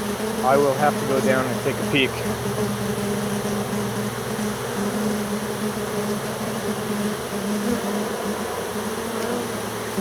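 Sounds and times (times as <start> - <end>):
bee swarm buzzing: 0.0 - 10.0.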